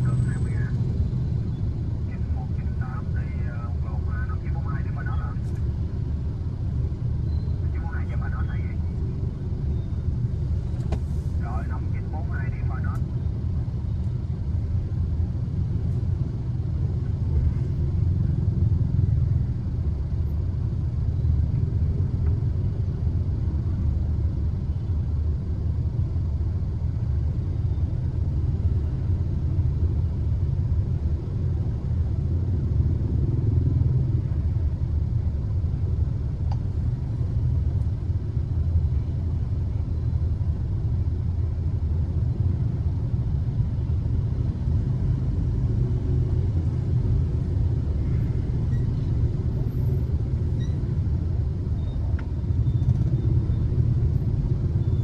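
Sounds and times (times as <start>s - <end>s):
motorbike traffic rumble: 0.0s - 55.0s.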